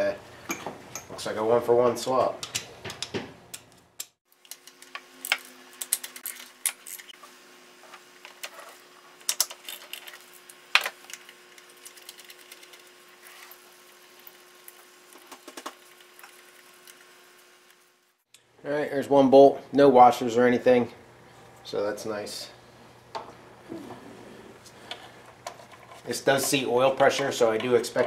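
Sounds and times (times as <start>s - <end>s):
faint steady hum: 4.4s - 28.0s.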